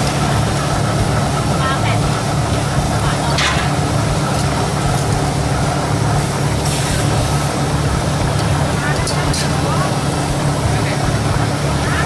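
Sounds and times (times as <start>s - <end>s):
motor humming steadily: 0.0s - 12.0s.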